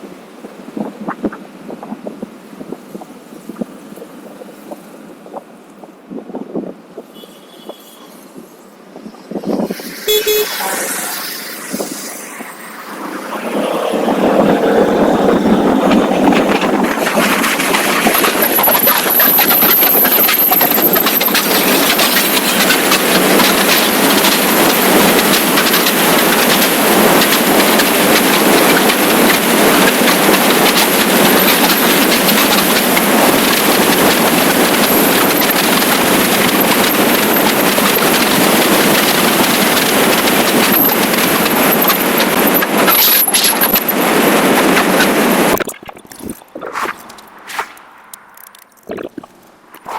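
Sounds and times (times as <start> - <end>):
wind buffeting microphone: 0.0 - 7.1, 8.2 - 49.9
road noise: 0.0 - 49.9.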